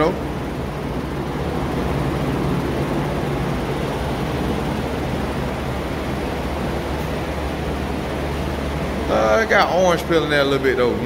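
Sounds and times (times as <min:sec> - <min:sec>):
low hum: 0:00.0 - 0:11.0
shop equipment mechanical drone: 0:00.0 - 0:11.0
rushing air: 0:00.2 - 0:10.2.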